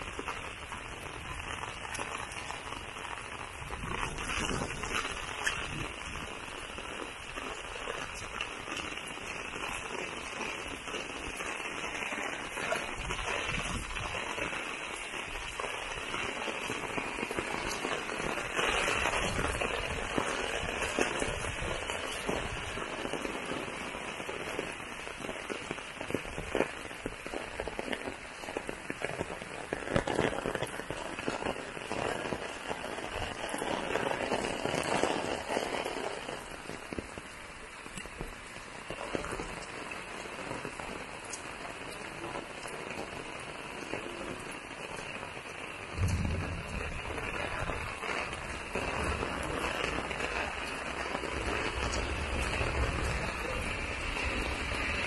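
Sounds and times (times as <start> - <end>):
heavy rain falling: 0.0 - 55.0
raindrop hits: 0.0 - 55.0.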